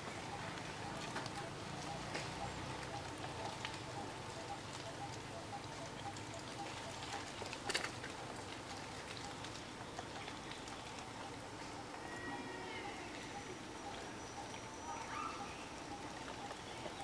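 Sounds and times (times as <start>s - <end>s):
small crackles and ticks: 0.0s - 17.0s.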